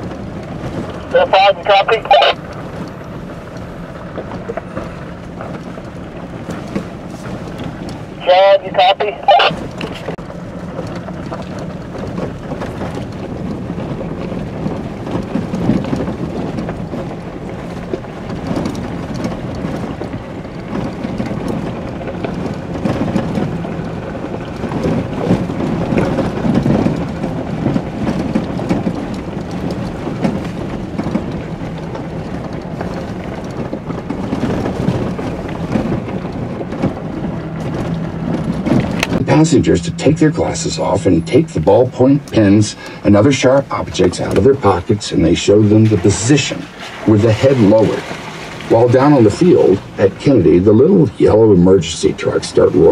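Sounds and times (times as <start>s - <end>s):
engine hum: 0.0s - 52.9s
tyres crunching over rocks: 0.0s - 52.9s.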